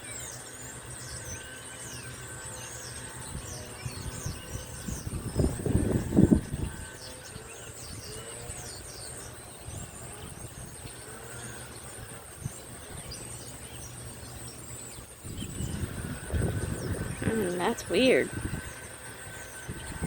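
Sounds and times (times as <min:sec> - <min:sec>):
birds chirping: 0:00.0 - 0:20.0
insects buzzing: 0:00.0 - 0:20.0
low steady hum: 0:00.0 - 0:20.0.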